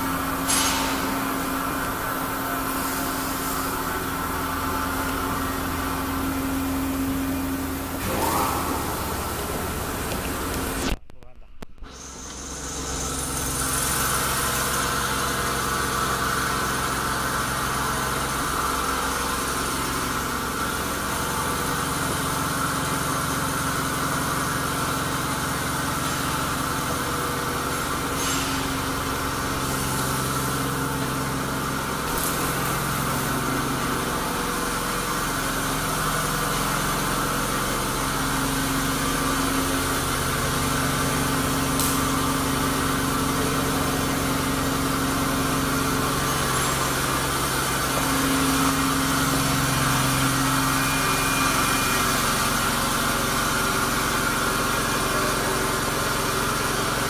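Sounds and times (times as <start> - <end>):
machine motors humming: 0.0 - 11.0, 11.7 - 57.0
low machine tone: 0.0 - 57.0.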